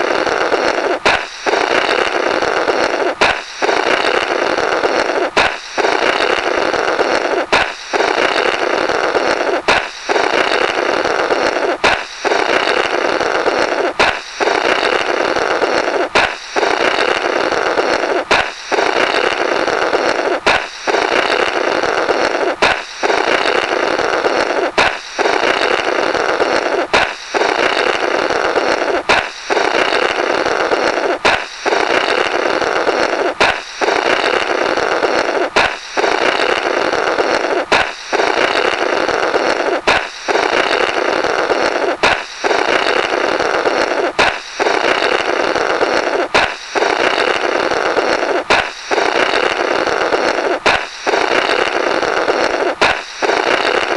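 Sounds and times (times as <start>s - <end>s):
balloon popping: 0.0s - 53.9s
raspy blow through burst rubber: 0.0s - 53.9s.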